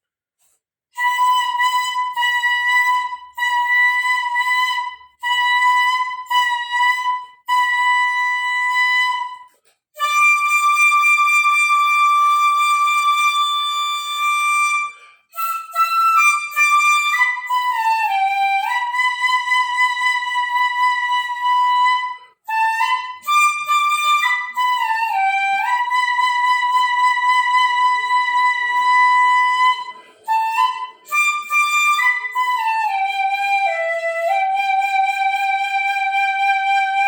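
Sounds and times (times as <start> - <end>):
bamboo flute melody: 1.0 - 37.0.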